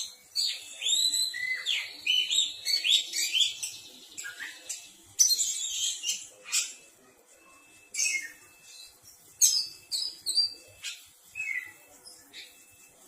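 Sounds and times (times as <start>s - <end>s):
bird singing whistled song: 0.0s - 6.8s, 7.5s - 12.8s.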